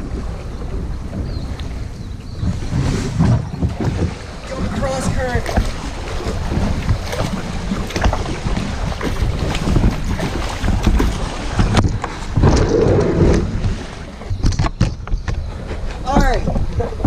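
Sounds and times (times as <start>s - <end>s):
paddle splashes and knocks: 0.0s - 17.0s
wind rumbling on microphone: 0.0s - 17.0s.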